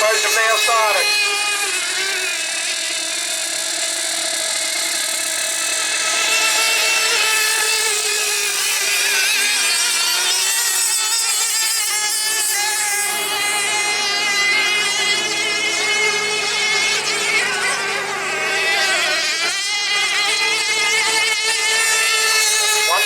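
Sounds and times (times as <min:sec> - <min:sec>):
racing outboard motors at high revs: 0:00.0 - 0:23.0.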